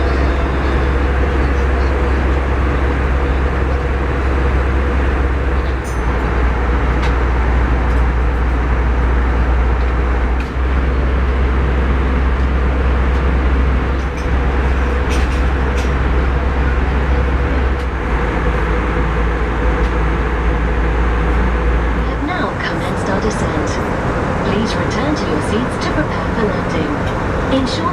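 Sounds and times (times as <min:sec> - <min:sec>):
aircraft cabin engine rumble: 0:00.0 - 0:27.9
constant hum: 0:00.0 - 0:27.9.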